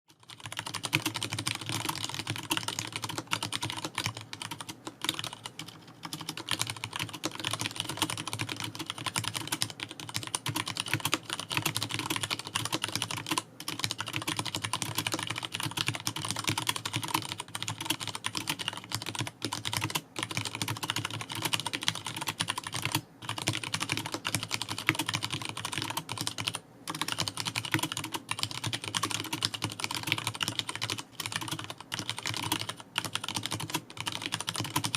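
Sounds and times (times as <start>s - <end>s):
fast typing on mechanical keyboard: 0.1s - 34.9s.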